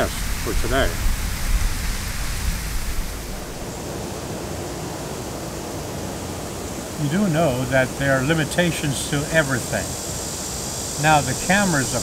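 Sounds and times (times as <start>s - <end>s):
microphone hiss: 0.0s - 12.0s
outdoor ambience: 0.0s - 12.0s.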